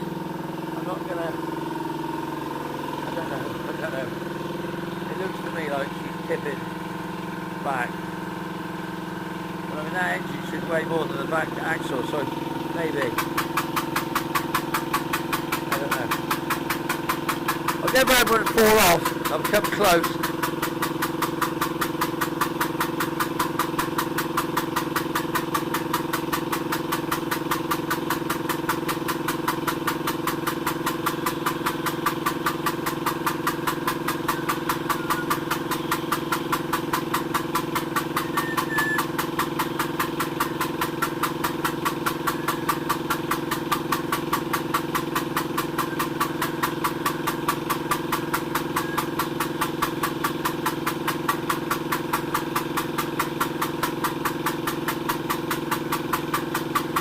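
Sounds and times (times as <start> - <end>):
pump motor humming and pulsing: 0.0 - 57.0.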